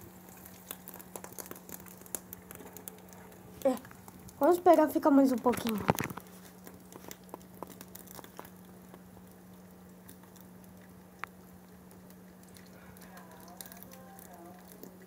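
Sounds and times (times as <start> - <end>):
egg frying crackles and pops: 0.0 - 15.0
low steady hum: 0.0 - 15.0.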